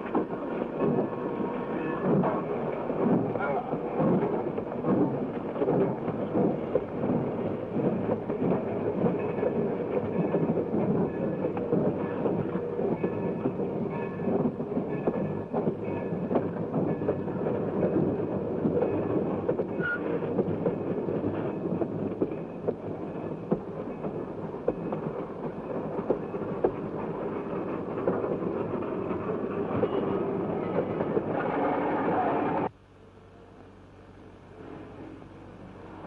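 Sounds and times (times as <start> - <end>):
wheels clattering over rail joints: 0.0 - 32.2
freight train rumbling: 0.0 - 36.0.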